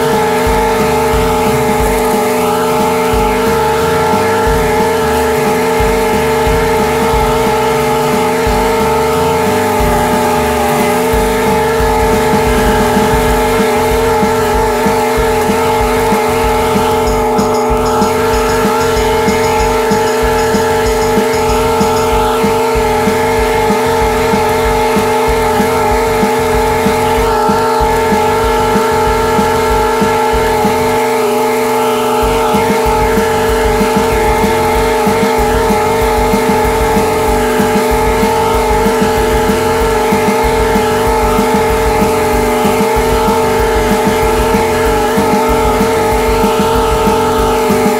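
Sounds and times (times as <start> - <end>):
blades cutting grass: 0.0 - 47.9
lawn mower engine running: 0.0 - 47.9.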